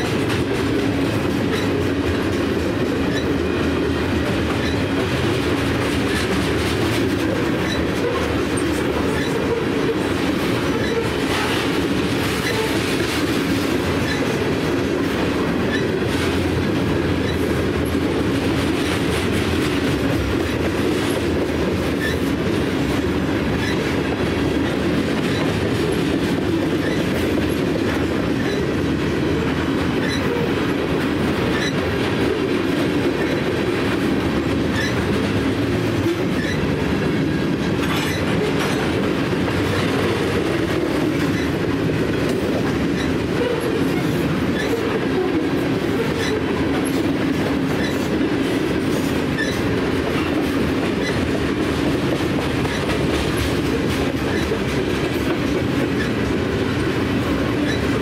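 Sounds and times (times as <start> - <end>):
clickety-clack of wheels on rails: 0.0 - 58.0
freight train rumbling past: 0.0 - 58.0.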